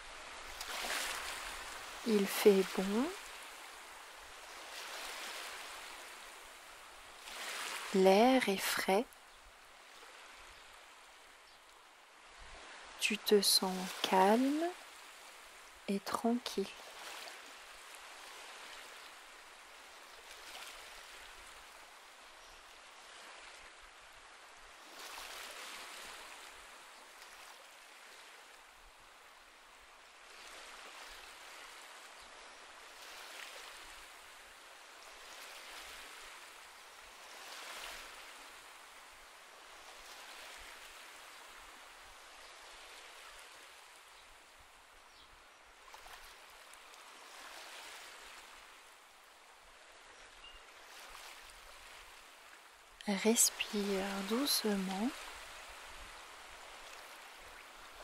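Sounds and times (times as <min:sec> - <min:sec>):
faint sea waves on shore: 0:00.0 - 0:58.0.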